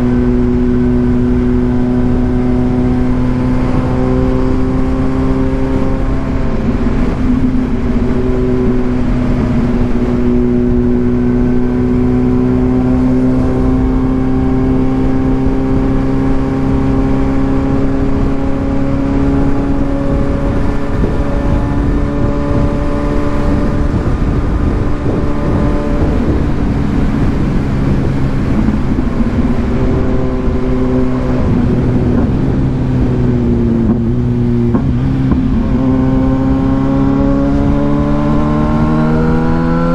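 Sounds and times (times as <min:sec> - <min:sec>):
motorcycle engine cruising: 0:00.0 - 0:39.9
steady rush of noise: 0:00.0 - 0:39.9.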